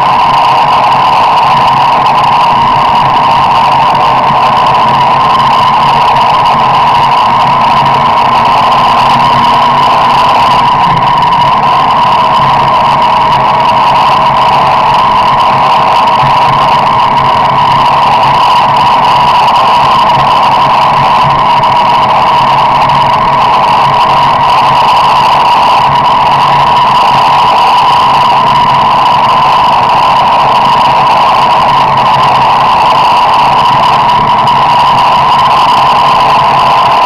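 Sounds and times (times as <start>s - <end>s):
car engine and road noise: 0.0s - 37.0s
constant tone: 0.0s - 37.0s.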